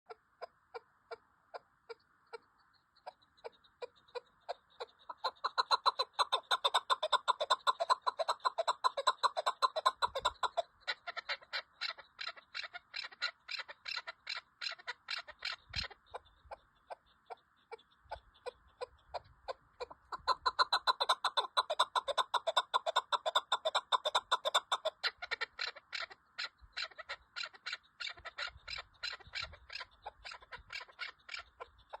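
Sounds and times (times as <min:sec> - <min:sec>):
partridge clucking calls: 0:00.1 - 0:32.0.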